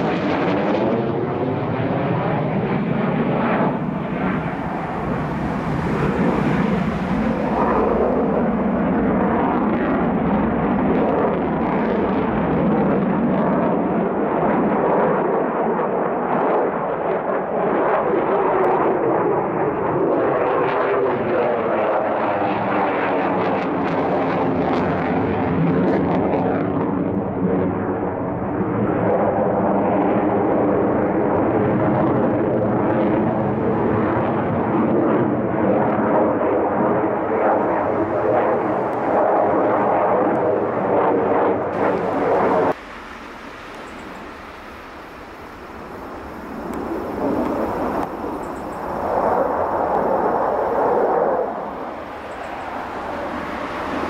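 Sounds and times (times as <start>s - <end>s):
distant jet rumble: 0.0s - 54.0s
jet engine roaring: 0.0s - 54.0s.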